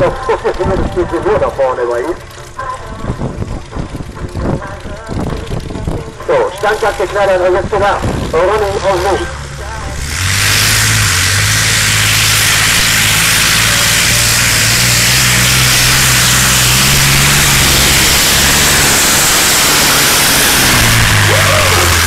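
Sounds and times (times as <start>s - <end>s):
tractor engine running flat out: 0.0s - 22.0s.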